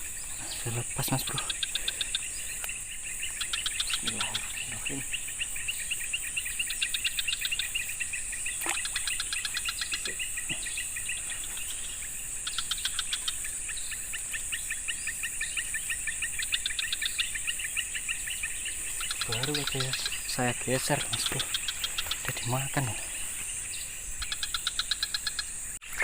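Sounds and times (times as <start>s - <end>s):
high-pitched insect drone: 0.0s - 26.0s
rapid chirps: 0.0s - 26.0s.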